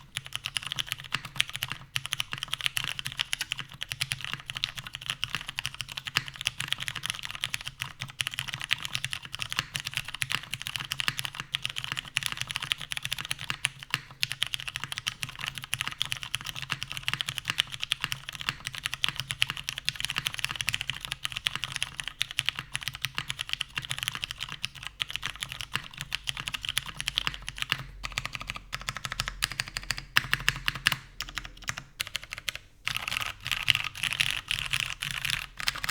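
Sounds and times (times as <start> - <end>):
fast mechanical keyboard typing: 0.0 - 35.9.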